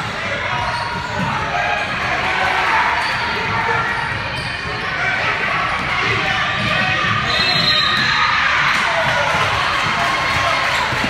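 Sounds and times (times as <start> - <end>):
chatter of many voices: 0.0 - 11.0.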